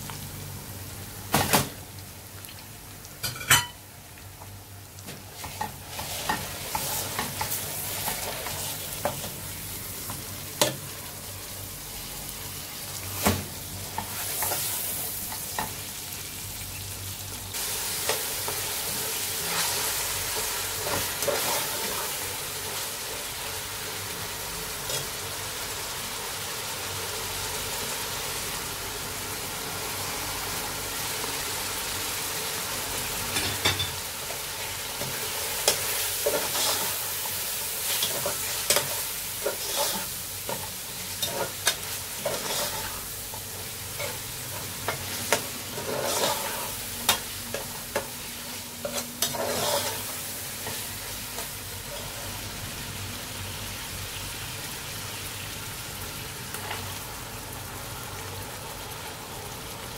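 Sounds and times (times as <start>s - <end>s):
meat sizzling in a pot: 0.0s - 59.9s.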